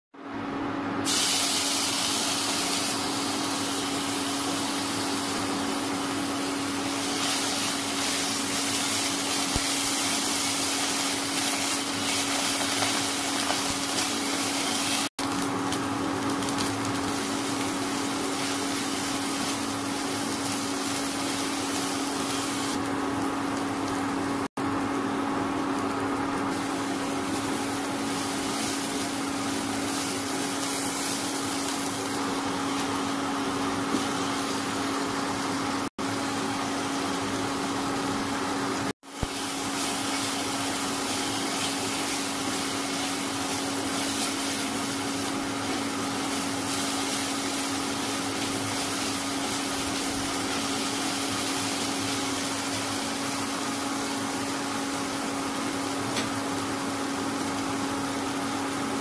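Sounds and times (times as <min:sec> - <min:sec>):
induction cooktop hum: 0:00.2 - 0:59.0
paste sizzling in hot oil: 0:01.0 - 0:24.5, 0:25.4 - 0:35.9, 0:39.0 - 0:56.2.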